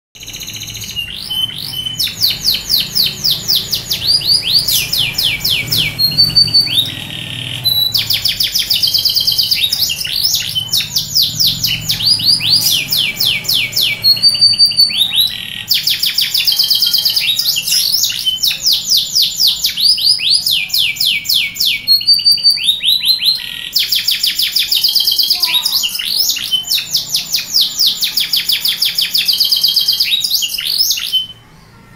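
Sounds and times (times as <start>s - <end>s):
canary singing trills: 0.2s - 31.9s.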